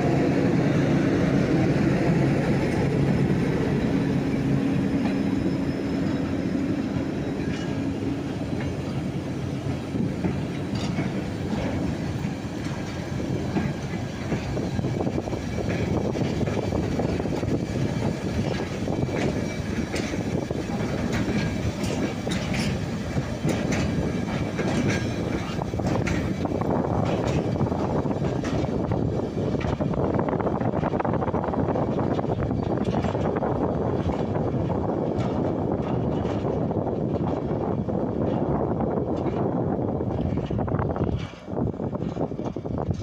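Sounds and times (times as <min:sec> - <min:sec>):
train wheels rumbling on rail: 0:00.0 - 0:43.0
wheels clicking over rail joints: 0:06.9 - 0:43.0.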